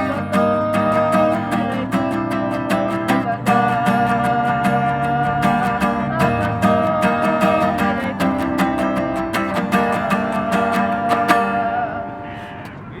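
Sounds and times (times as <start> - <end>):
held melody line: 0.0 - 12.8
strummed acoustic guitar: 0.0 - 12.8.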